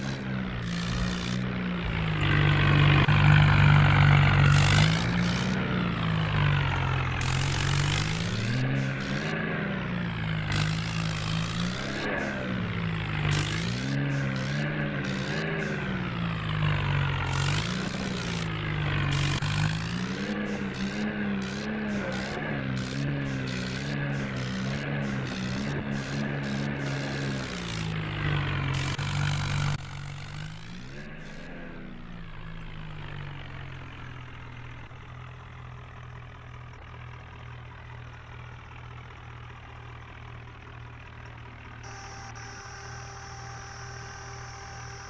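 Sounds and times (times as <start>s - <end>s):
tractor diesel engine revving: 0.0s - 45.0s.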